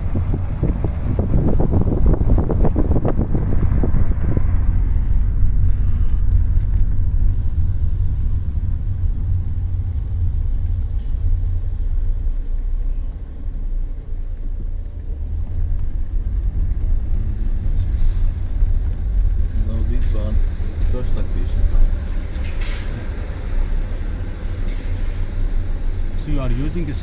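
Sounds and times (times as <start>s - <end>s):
loud low rumble: 0.0s - 24.6s.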